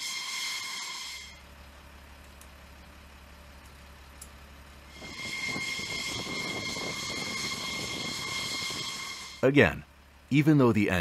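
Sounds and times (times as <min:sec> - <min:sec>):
rumble: 0:00.0 - 0:10.3
jet engines idling whine: 0:00.0 - 0:11.0.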